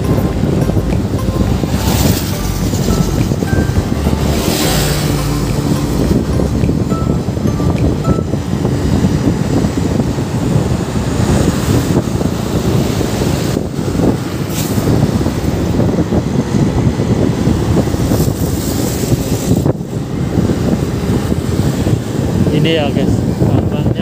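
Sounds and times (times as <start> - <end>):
motorcycle wind and road noise: 0.0 - 24.0
passing traffic: 0.0 - 24.0
wind on microphone: 0.0 - 24.0.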